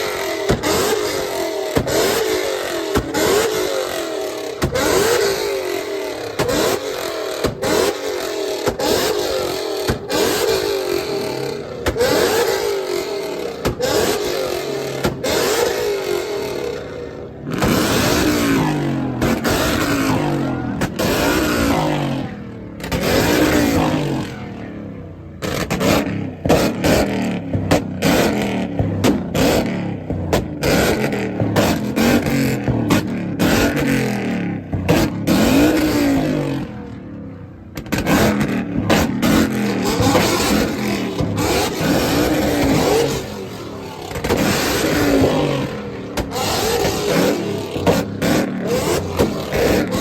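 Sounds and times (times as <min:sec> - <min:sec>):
car engine revving: 0:00.0 - 0:50.0
exhaust crack: 0:00.0 - 0:50.0.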